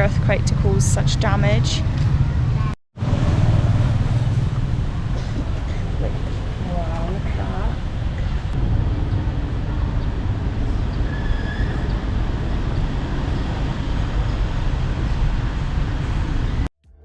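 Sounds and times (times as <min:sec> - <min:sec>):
low rumble of street ambience: 0:00.0 - 0:16.7.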